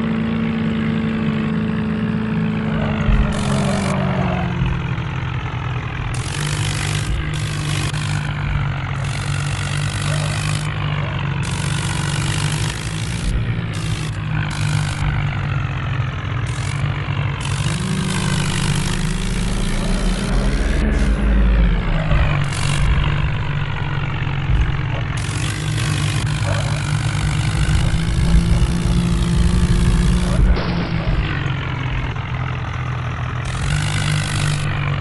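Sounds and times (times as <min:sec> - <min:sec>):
toy tractor engine drone: 0:00.0 - 0:35.0.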